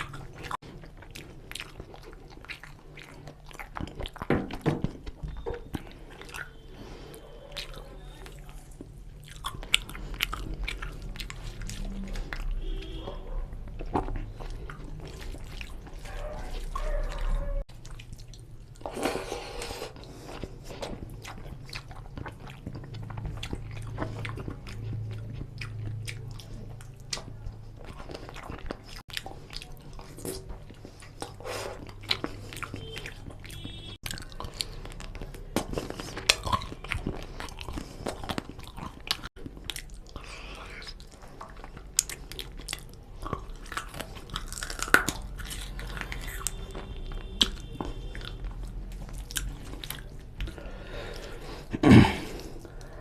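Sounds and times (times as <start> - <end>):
chewing and wet mouth sounds: 0.0 - 53.0.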